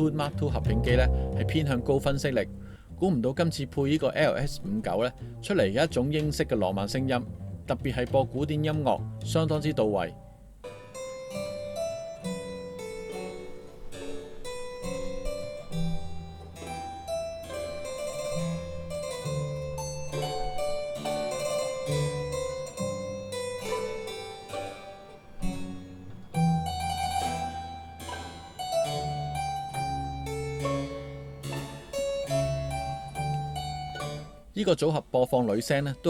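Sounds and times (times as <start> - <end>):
harpsichord music: 0.0 - 36.0.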